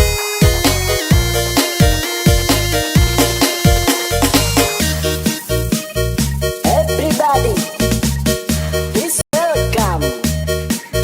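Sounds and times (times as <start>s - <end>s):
music with deep bass line: 0.0s - 8.9s.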